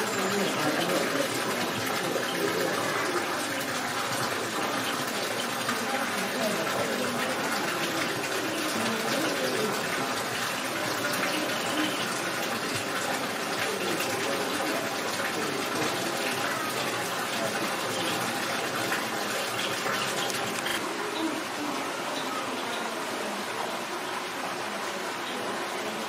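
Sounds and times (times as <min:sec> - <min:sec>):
small waterfall splashing into pool: 0:00.0 - 0:26.0.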